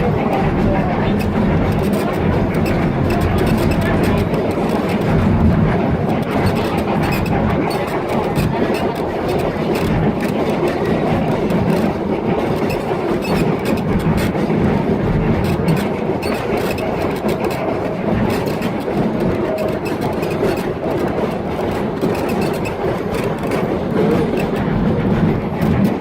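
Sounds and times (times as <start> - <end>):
rapid rattling and clicking: 0.0 - 26.0
train wheels rumbling on track: 0.0 - 26.0.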